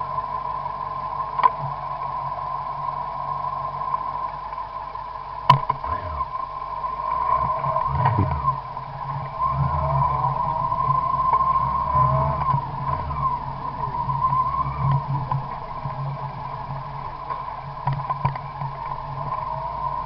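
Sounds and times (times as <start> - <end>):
car engine idling: 0.0 - 20.0
steady high hum: 0.0 - 20.0.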